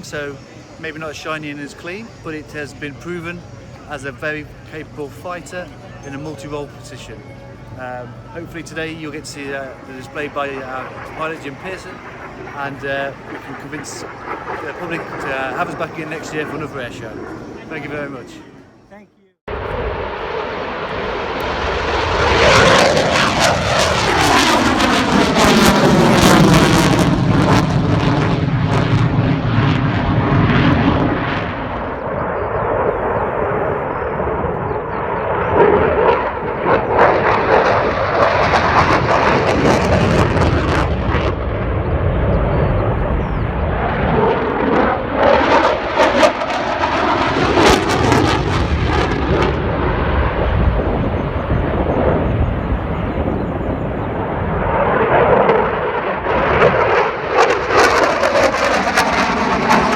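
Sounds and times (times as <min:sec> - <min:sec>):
fighter jet passing: 0:08.1 - 0:18.6, 0:19.5 - 0:59.9.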